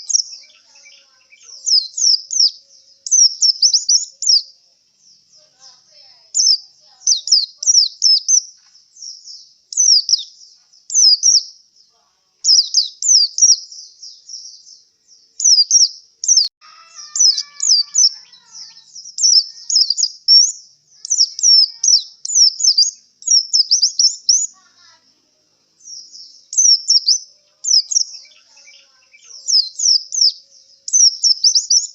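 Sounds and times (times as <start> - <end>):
bird twittering song: 0.0 - 31.9.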